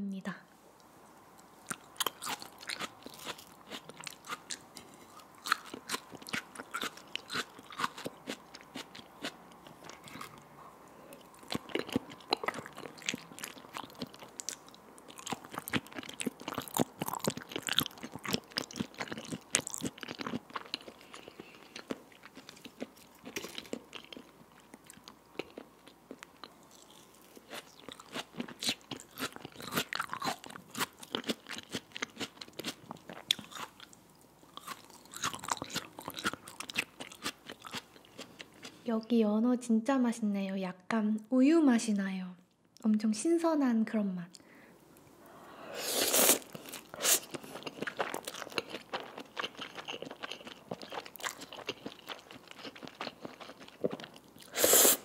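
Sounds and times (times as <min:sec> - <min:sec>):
crunchy wet chewing: 0:01.6 - 0:10.5, 0:11.1 - 0:38.8, 0:46.0 - 0:55.0.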